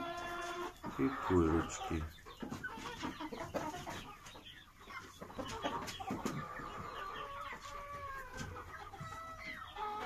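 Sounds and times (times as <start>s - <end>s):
chickens clucking and chirping: 0.0s - 10.0s.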